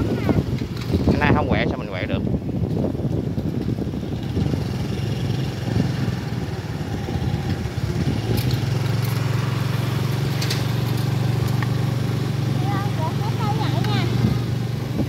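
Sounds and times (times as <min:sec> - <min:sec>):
wind rumbling on microphone: 0:00.0 - 0:15.0
small engine humming: 0:02.8 - 0:15.0.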